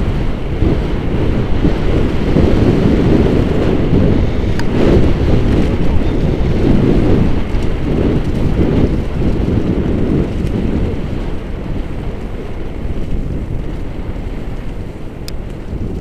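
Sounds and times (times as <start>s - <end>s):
bike tyres rumbling on dirt trail: 0.0s - 16.0s
wind buffeting microphone: 0.0s - 16.0s.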